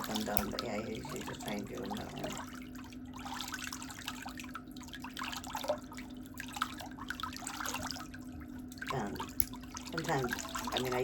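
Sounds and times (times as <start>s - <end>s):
steady low hum: 0.0s - 11.0s
water dripping and splashing: 0.0s - 11.0s.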